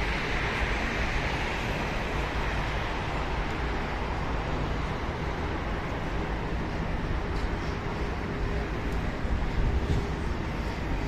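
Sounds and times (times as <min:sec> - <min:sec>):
distant jet engines roaring: 0:00.0 - 0:11.0
highway traffic noise: 0:00.0 - 0:11.0.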